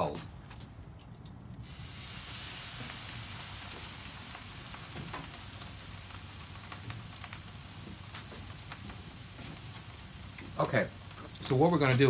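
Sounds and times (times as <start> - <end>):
small pops and crackles: 0.1 - 1.7, 2.7 - 12.0
fish sizzling on a grill: 1.6 - 12.0.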